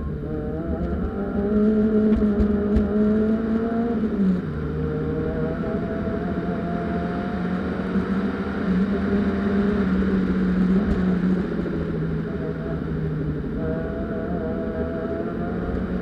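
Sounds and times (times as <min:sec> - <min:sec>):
car engine at high revs: 0:00.0 - 0:16.0
road and wind noise: 0:00.0 - 0:16.0.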